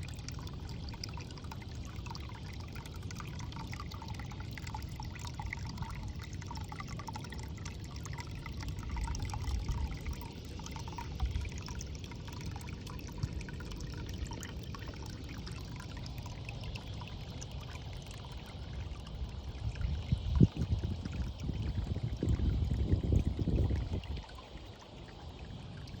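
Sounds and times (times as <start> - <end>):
water pouring and trickling: 0.0 - 26.0.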